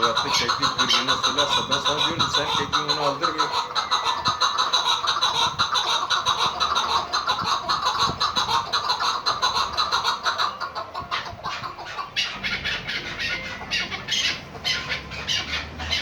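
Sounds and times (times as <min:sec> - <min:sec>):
partridges clucking: 0:00.0 - 0:16.0.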